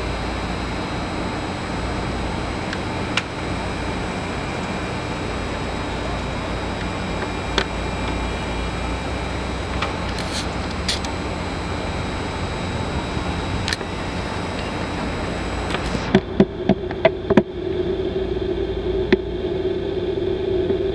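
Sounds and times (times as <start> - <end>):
jet engines idling: 0.0 - 20.9.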